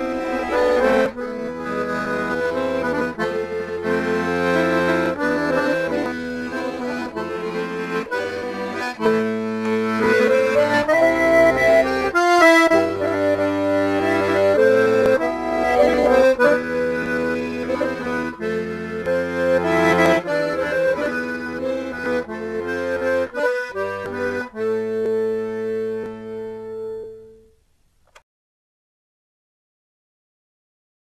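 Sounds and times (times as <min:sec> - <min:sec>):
accordion music: 0:00.0 - 0:27.6.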